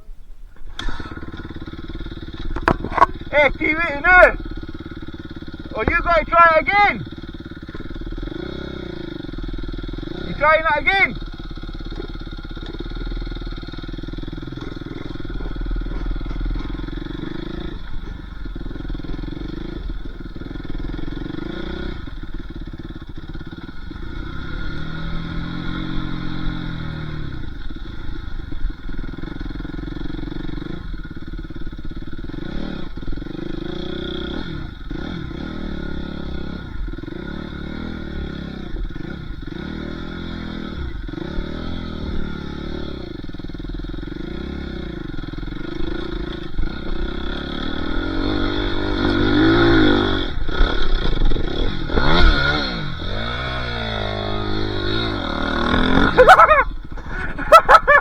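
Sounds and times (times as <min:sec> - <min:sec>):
dirt bike engine revving: 0:00.6 - 0:58.0.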